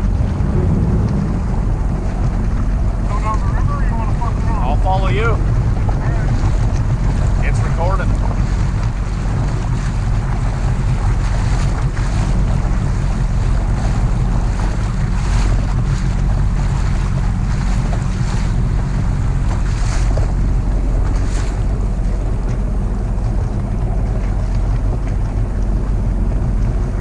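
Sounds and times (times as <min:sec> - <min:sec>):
jet ski engine running: 0:00.0 - 0:27.0
water rushing past hull: 0:00.0 - 0:27.0
wind buffeting microphone: 0:00.0 - 0:27.0.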